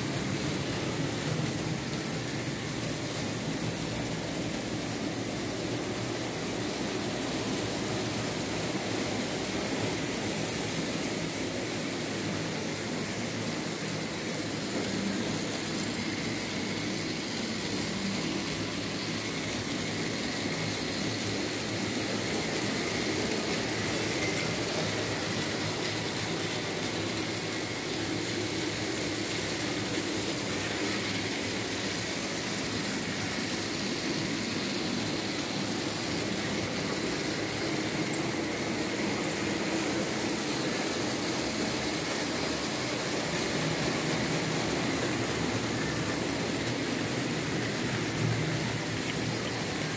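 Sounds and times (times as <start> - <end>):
model train wheels rattling: 0.0 - 49.9.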